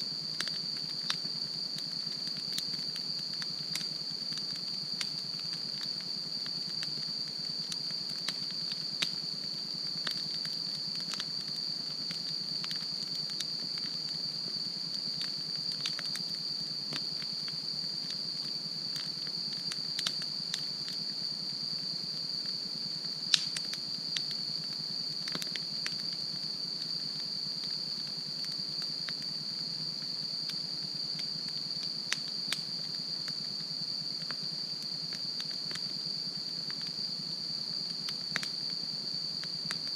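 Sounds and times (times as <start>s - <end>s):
high-pitched insect trill: 0.0s - 39.9s
campfire crackling and popping: 0.1s - 39.9s.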